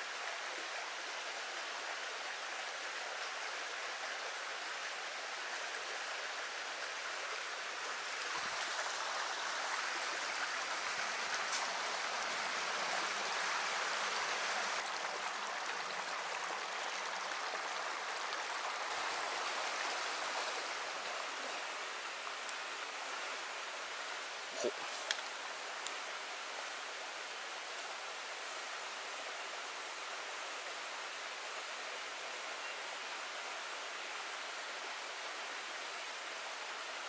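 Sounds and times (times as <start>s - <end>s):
stream running over rocks: 0.0s - 37.0s.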